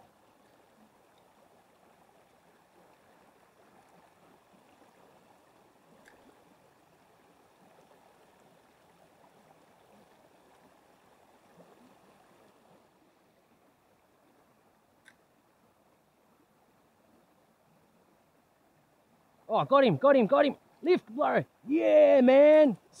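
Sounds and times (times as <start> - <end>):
creek flowing: 0.0 - 23.0.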